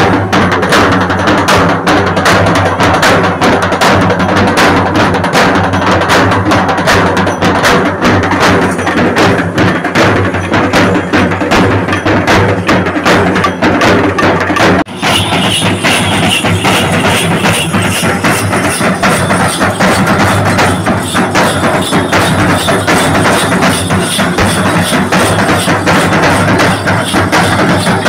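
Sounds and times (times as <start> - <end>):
drums playing dense rhythm: 0.0 - 28.0.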